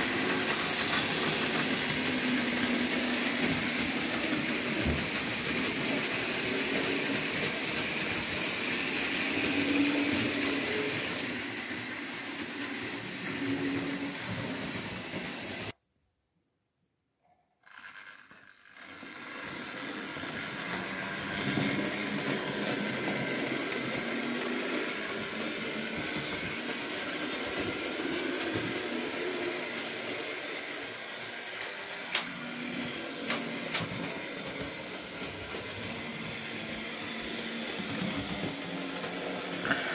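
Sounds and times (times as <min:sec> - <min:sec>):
model train motor hum: 0:00.0 - 0:15.7, 0:17.6 - 0:39.9.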